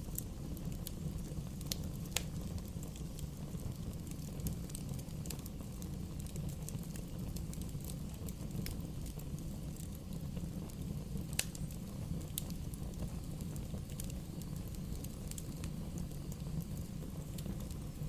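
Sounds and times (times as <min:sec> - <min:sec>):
bonfire rumbling: 0:00.0 - 0:18.0
fire crackles and pops: 0:00.0 - 0:18.0.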